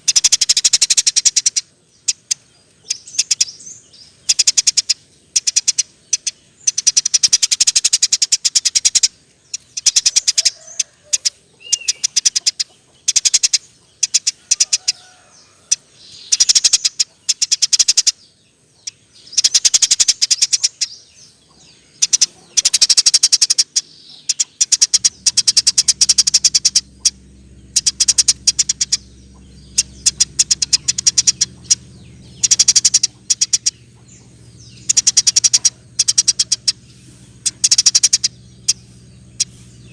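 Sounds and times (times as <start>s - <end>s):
faint low hum: 0.0s - 39.9s
sparrow chirping: 0.0s - 39.9s.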